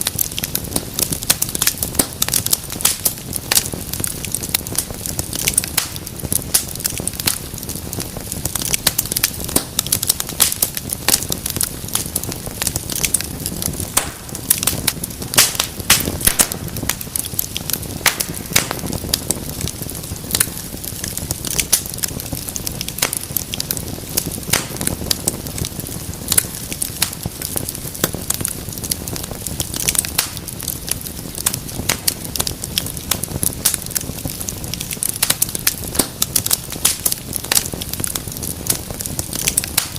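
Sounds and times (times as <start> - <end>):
fire crackling and popping: 0.0 - 39.9
flames rumbling: 0.0 - 39.9.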